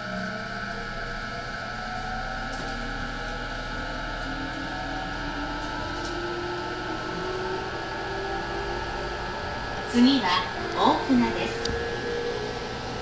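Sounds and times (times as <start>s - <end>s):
electric train motors whining: 0.0s - 13.0s
train running rumble: 0.0s - 13.0s.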